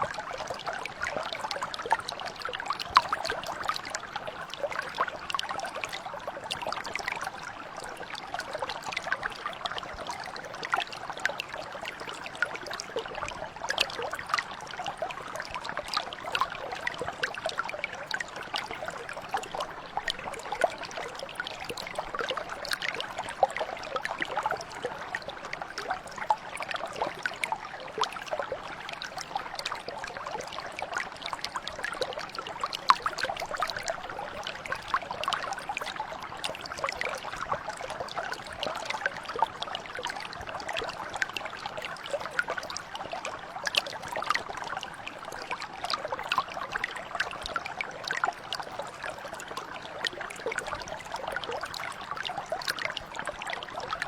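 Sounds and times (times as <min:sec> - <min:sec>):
brook flowing over stones: 0:00.0 - 0:54.0.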